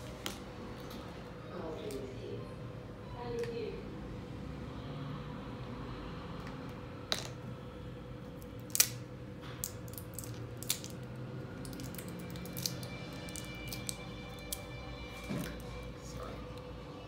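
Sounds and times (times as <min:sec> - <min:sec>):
room hum: 0:00.0 - 0:17.0.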